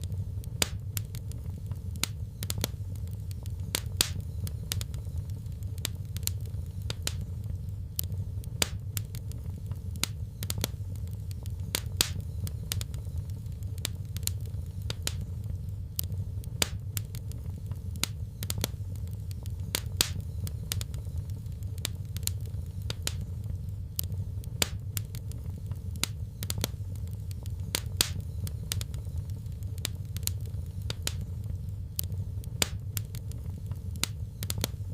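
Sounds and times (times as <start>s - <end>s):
low rumble of flames: 0.0s - 34.9s
wood fire pops and snaps: 0.0s - 34.9s.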